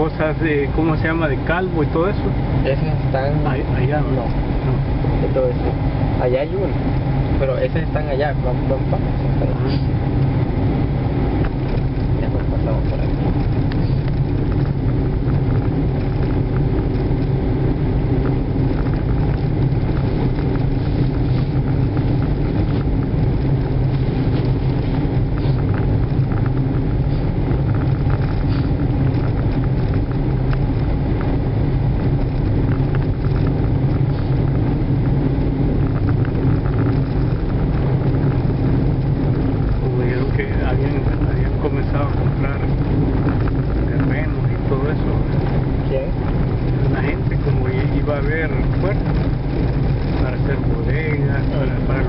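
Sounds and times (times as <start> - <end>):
car engine and tyre noise: 0.0 - 52.0.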